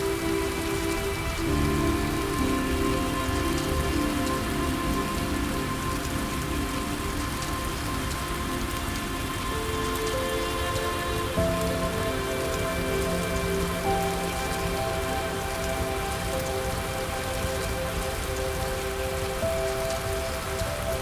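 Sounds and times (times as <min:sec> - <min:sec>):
rain falling: 0:00.0 - 0:21.0
soft calm music: 0:00.0 - 0:21.0.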